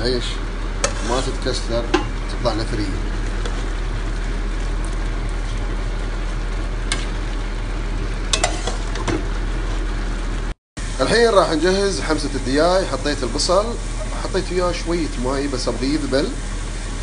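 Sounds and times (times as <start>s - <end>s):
pot bubbling and hissing: 0.0s - 17.0s.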